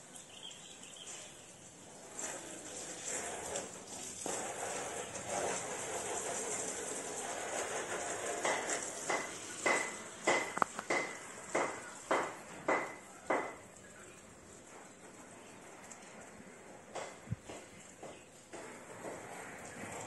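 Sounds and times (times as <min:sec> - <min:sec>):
garden hose spraying water: 0:00.0 - 0:20.0.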